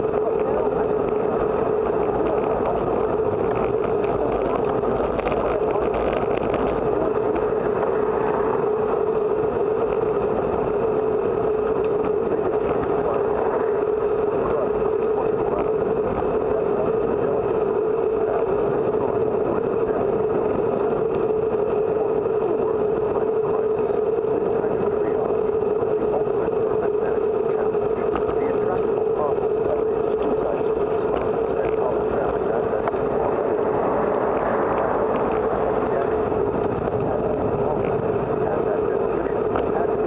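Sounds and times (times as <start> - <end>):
constant hum: 0.0 - 40.0
wind and road rush: 0.0 - 40.0.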